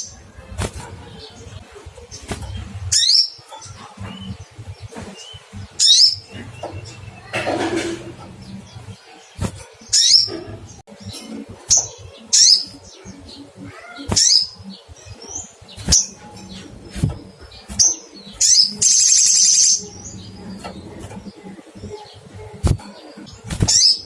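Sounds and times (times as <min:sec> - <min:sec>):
bird rapid trill: 0:00.0 - 0:24.0.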